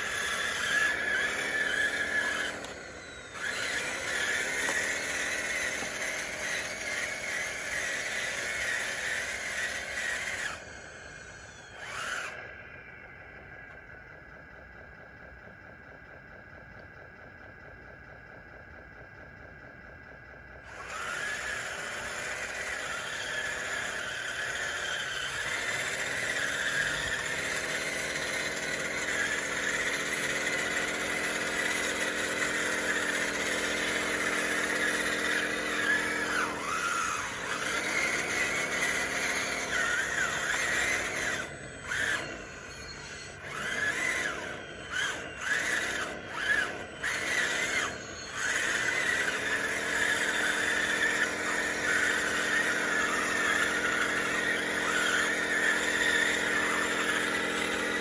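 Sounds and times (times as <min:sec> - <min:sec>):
toy bulldozer motors whining: 0:00.0 - 0:17.9, 0:18.7 - 0:58.0.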